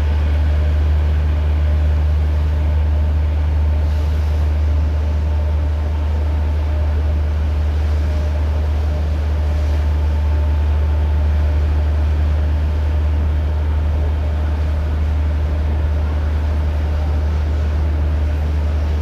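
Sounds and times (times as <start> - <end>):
hiss of wind and water: 0.0 - 19.0
low engine drone: 0.0 - 19.0.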